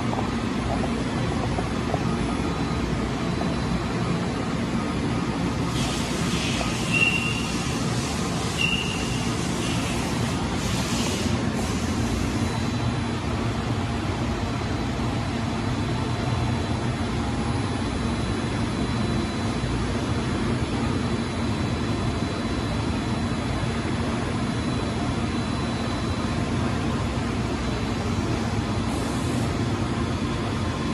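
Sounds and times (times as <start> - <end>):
industrial machinery drone: 0.0 - 30.9.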